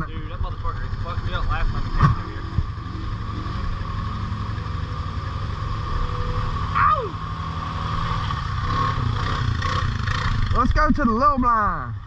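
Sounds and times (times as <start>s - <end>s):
atv engine rumbling: 0.0s - 12.0s.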